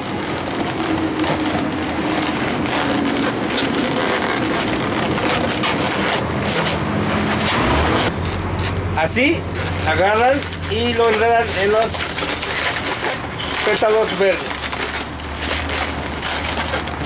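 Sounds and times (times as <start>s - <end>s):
balloons squeaking and crackling: 0.0s - 17.0s.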